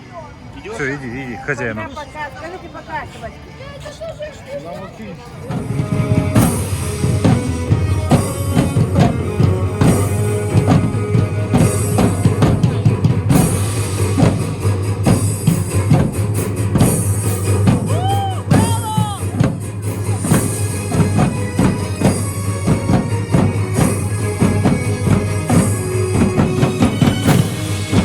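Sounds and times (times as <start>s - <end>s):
music with driving drum beat: 5.5s - 28.0s.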